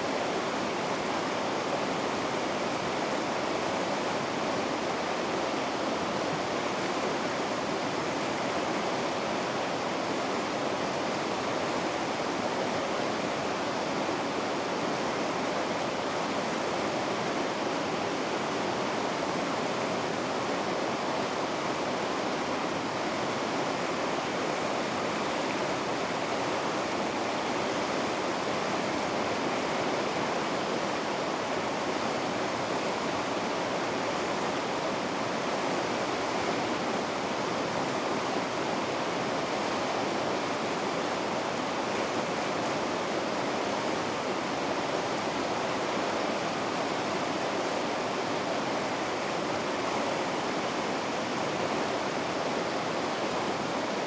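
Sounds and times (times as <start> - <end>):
river rapids rushing over rocks: 0.0 - 54.0.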